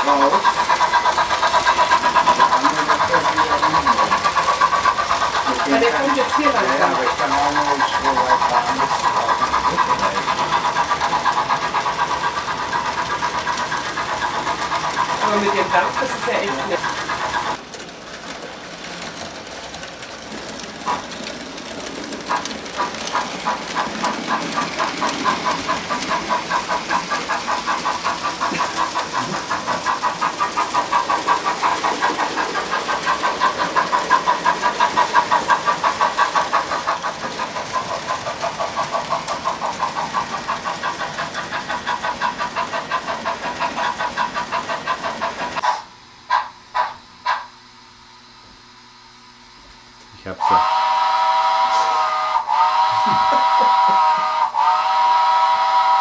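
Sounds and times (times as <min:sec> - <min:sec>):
model steam locomotive chuffing: 0:00.0 - 0:48.1, 0:50.3 - 0:56.0.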